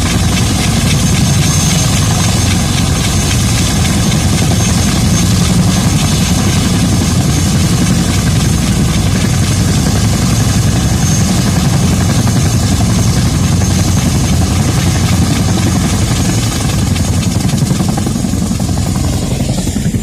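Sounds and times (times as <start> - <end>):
helicopter rotor beat: 0.0 - 20.0
high helicopter whine: 0.0 - 20.0.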